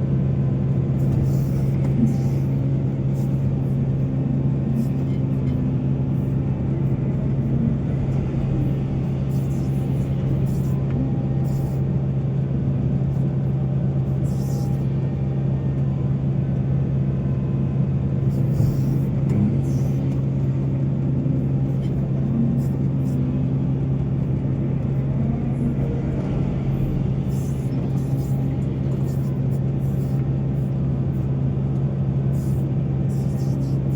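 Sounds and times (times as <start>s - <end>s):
diesel engine droning: 0.0s - 33.9s.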